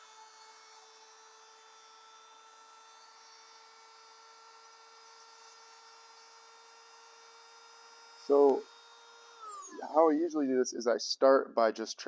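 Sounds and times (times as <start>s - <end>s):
rotary tool high whine: 0.0s - 10.5s.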